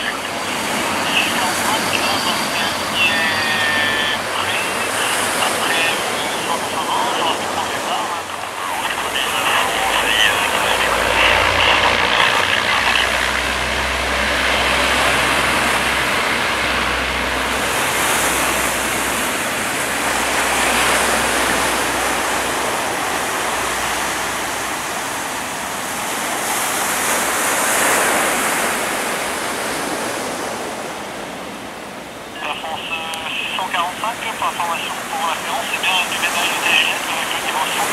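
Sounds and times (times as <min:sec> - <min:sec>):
turboprop engines at takeoff power: 0:00.0 - 0:37.9.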